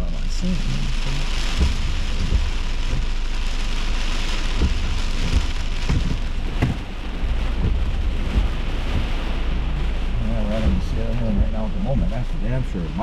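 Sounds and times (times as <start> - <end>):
heavy rain beating on a car: 0.0 - 13.0
low thunder rumble: 0.0 - 13.0.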